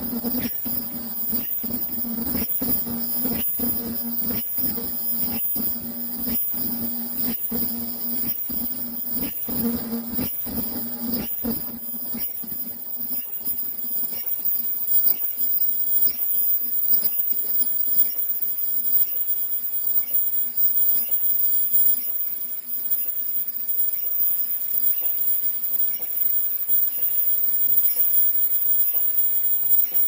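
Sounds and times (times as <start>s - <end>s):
machine high-pitched whine: 0.0s - 30.0s.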